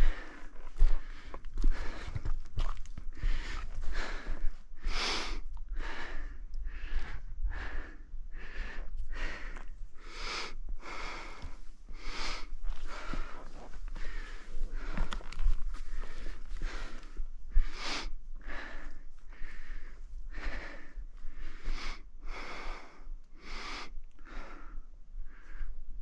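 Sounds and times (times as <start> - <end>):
heavy rapid breathing: 0.0 - 25.8.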